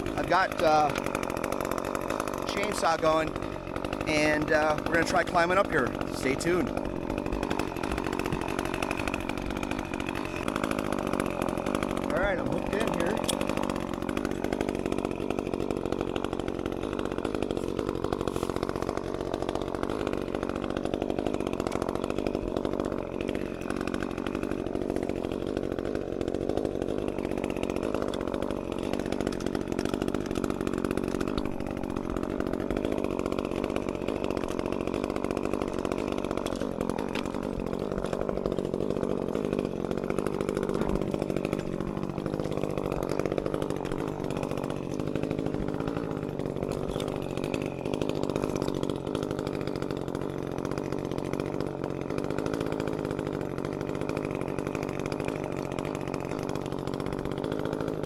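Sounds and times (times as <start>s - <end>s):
chainsaw engine running: 0.0s - 58.0s.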